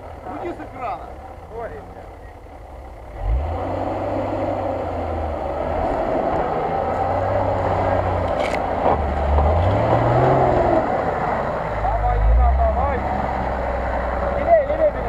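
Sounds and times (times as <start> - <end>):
off-road vehicle engine pulling: 0.0 - 15.0.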